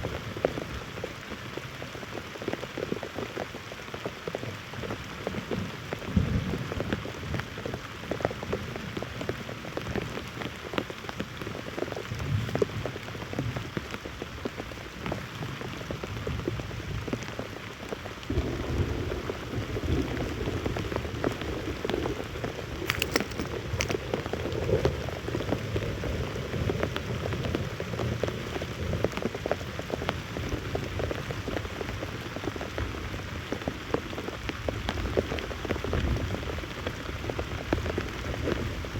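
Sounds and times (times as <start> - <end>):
raindrops striking close by: 0.0 - 38.9
steady rain falling: 0.0 - 38.9.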